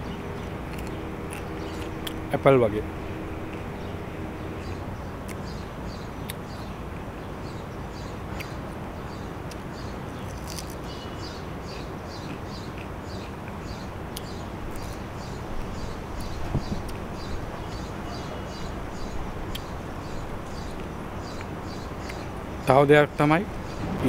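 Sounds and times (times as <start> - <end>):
small bird chirping: 0.0 - 2.3, 3.4 - 22.4
steady outdoor hiss: 0.0 - 24.0.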